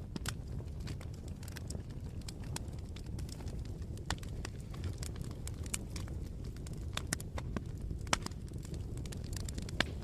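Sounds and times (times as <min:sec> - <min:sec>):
burning wood crackling and popping: 0:00.0 - 0:10.0
flames rumbling: 0:00.0 - 0:10.0.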